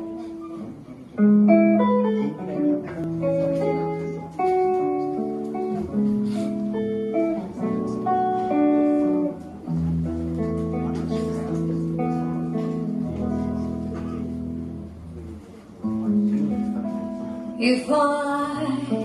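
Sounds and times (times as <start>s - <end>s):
jazz guitar chords: 0.0s - 19.0s.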